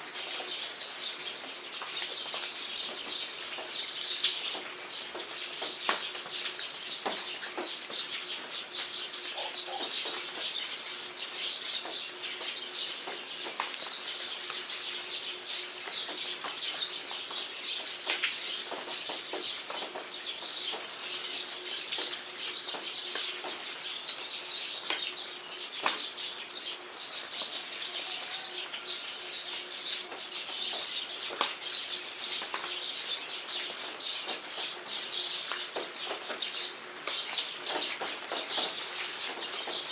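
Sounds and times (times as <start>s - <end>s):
rain pattering: 0.0s - 39.9s
songbirds chirping: 0.0s - 39.9s.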